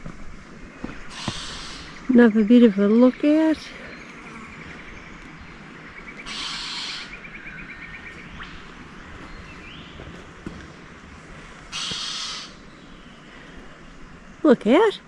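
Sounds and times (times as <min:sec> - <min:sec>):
forest birds calling: 0:00.0 - 0:15.0.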